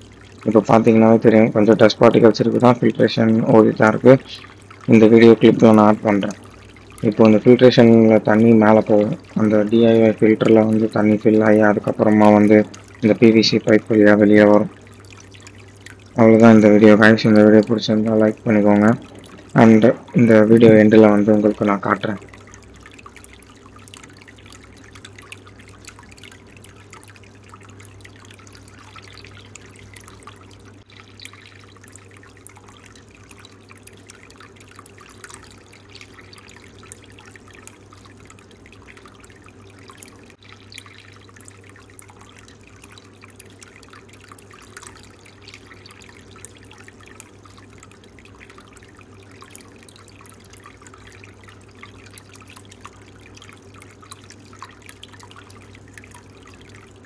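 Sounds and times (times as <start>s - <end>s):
filter pump hum: 0.0s - 57.0s
water trickling and splashing: 0.0s - 57.0s.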